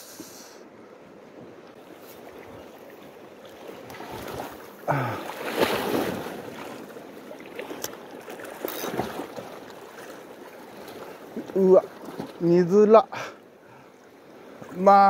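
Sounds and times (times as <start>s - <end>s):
sea wash: 0.0s - 15.0s.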